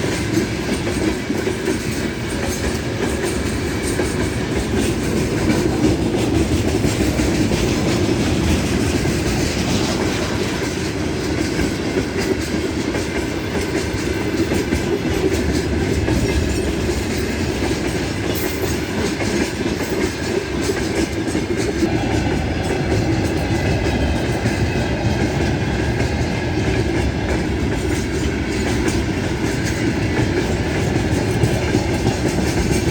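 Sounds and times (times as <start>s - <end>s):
freight train wheels clattering: 0.0s - 32.9s.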